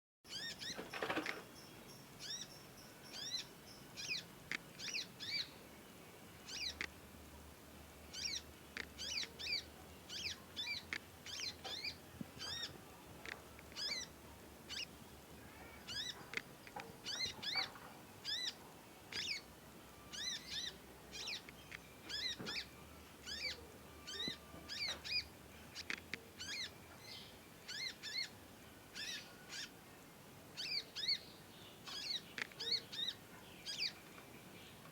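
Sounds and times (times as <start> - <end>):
young songbird chirping: 0.3 - 5.6, 6.4 - 6.9, 8.1 - 12.8, 13.6 - 29.8, 30.5 - 34.9.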